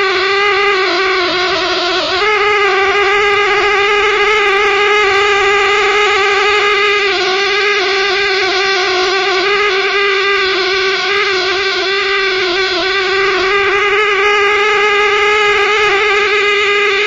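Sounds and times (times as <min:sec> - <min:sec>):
steady pitched drone: 0:00.0 - 0:17.0.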